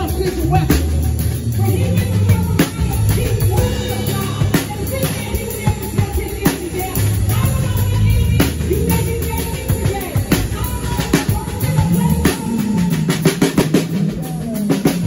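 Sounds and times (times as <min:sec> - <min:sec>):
band playing: 0:00.0 - 0:15.0
bass guitar: 0:00.0 - 0:15.0
drum kit playing: 0:00.0 - 0:15.0.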